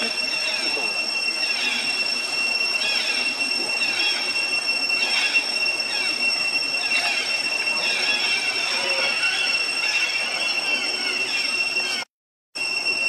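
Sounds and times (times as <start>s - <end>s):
high-pitched insect drone: 0.0s - 13.0s
sweeping insect chirps: 0.0s - 13.0s.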